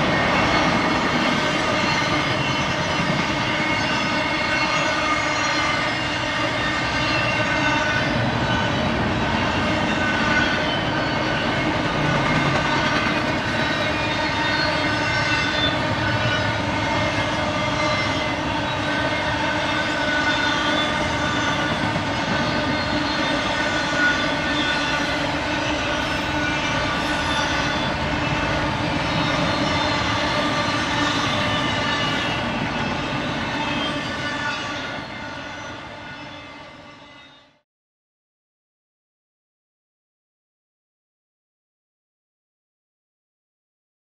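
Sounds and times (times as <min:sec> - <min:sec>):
train cars rumbling and clattering: 0:00.0 - 0:36.4.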